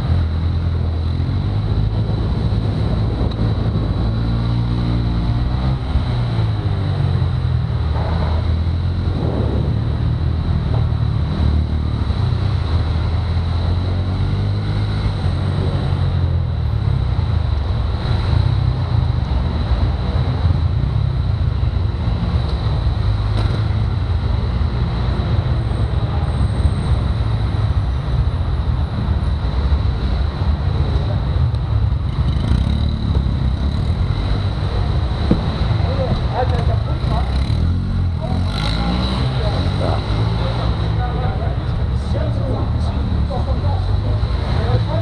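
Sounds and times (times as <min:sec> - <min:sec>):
go-kart engine rumble: 0:00.0 - 0:45.0.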